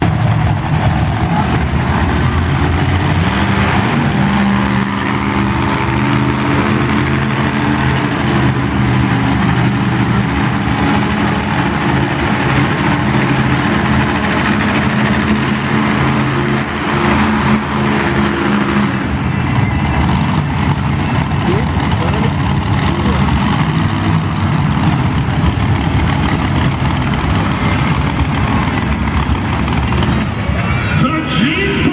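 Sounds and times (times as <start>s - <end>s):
arena noise: 0.0s - 31.9s
truck engine idling: 0.0s - 31.9s.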